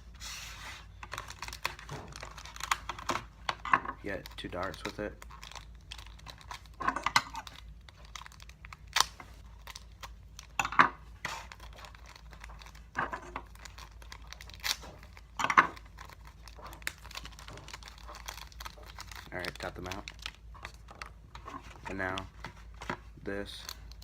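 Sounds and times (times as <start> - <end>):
packaging crinkling and tearing: 0.9 - 10.6, 11.2 - 24.0.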